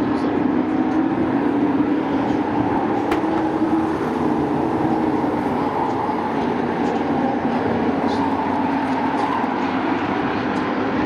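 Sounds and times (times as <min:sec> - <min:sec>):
racing truck engines droning: 0:00.0 - 0:11.0.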